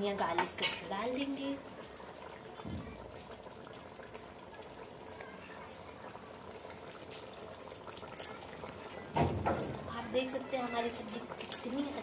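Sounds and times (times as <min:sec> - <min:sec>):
curry simmering bubbling hiss: 0:00.0 - 0:12.0.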